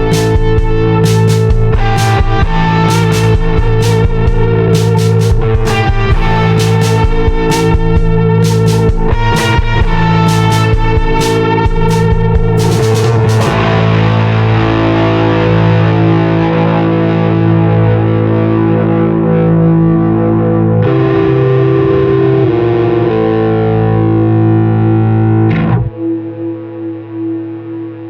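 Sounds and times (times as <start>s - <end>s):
fuzzed electric guitar chords: 0.0s - 28.0s
wavering guitar note: 0.0s - 28.0s.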